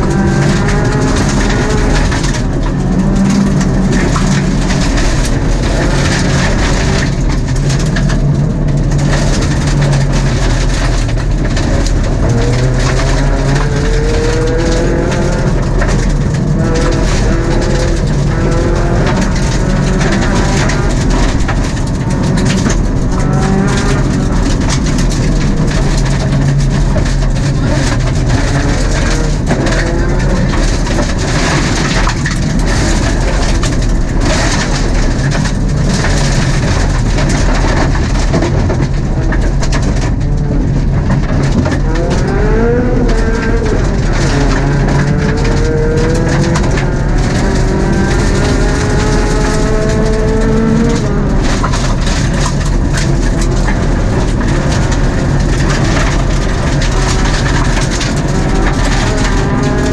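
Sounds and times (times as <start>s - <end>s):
rally car engine revving: 0.0s - 59.9s
tyres and stones on gravel: 0.0s - 59.9s.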